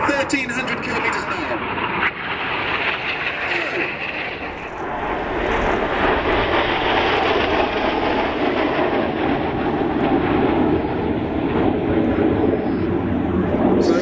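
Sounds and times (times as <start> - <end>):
jets flying past: 0.0 - 14.0.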